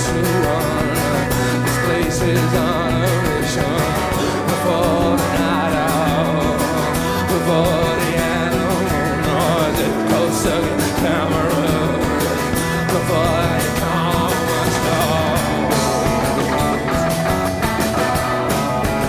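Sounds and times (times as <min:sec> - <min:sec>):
bass: 0:00.0 - 0:19.0
fast drum beat: 0:00.0 - 0:19.0
guitar: 0:00.0 - 0:19.0
man singing: 0:00.0 - 0:19.0.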